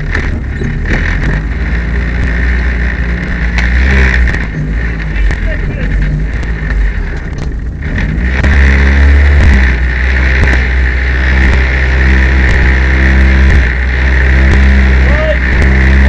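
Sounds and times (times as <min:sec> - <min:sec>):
rally car engine revving with misfire: 0:00.0 - 0:16.0.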